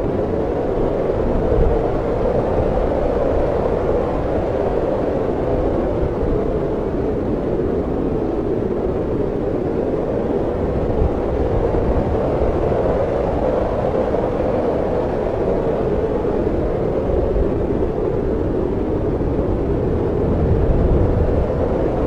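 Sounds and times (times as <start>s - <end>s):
wind blowing with low rumble: 0.0s - 22.0s.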